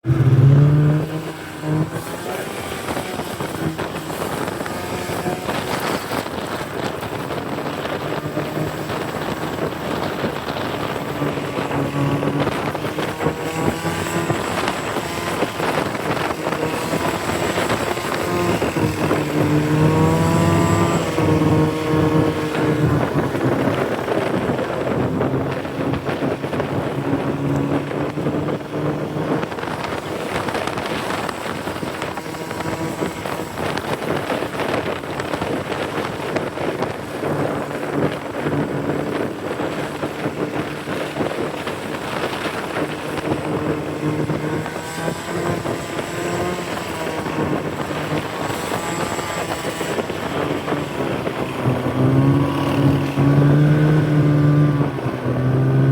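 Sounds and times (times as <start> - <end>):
snowmobile engine running: 0.0 - 55.9
wind buffeting microphone: 0.0 - 55.9.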